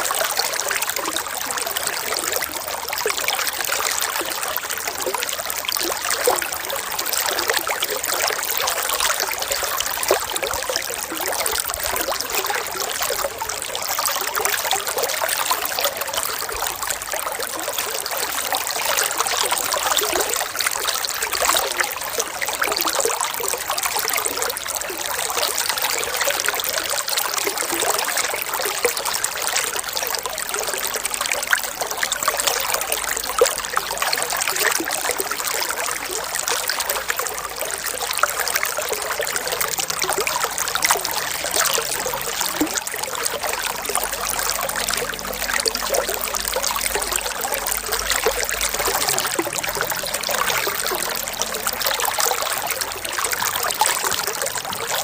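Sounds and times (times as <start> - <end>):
water trickling and babbling: 0.0 - 55.0.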